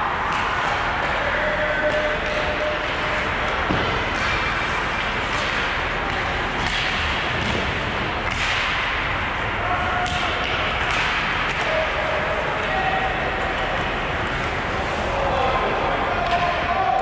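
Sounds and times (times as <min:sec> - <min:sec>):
arena hall noise: 0:00.0 - 0:17.0
hockey sticks clacking: 0:00.1 - 0:17.0.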